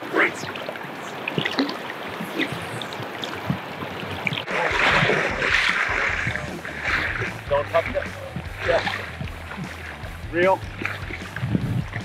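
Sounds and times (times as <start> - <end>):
river water rushing: 0.0 - 12.0
small water splashes: 0.0 - 12.0.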